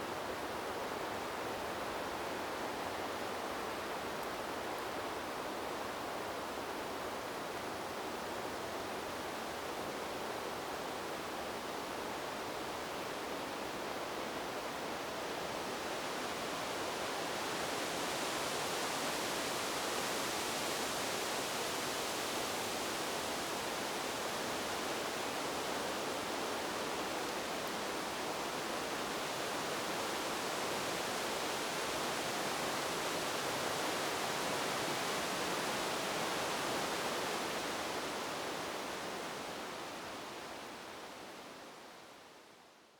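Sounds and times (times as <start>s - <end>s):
wind blowing through trees: 0.0s - 42.9s.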